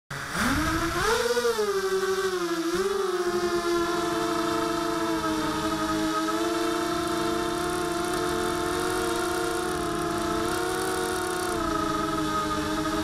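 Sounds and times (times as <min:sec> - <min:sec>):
drone motor and propeller whine: 0:00.1 - 0:13.0.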